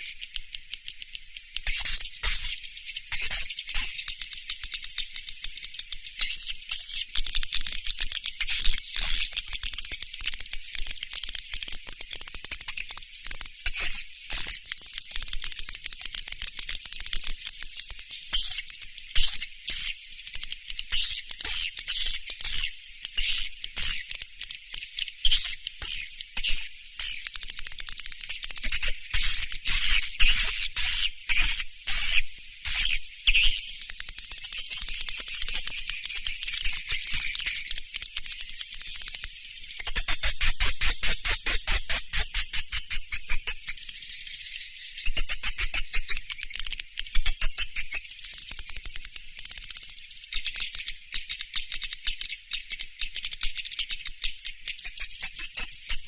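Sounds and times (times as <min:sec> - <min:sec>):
chorus of chattering twitters: 0:00.0 - 0:56.0.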